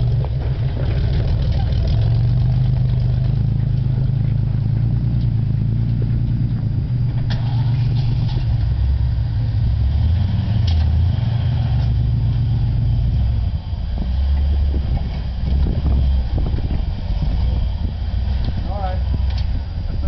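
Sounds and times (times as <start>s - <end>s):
vehicle engine running at low revs: 0.0s - 20.0s.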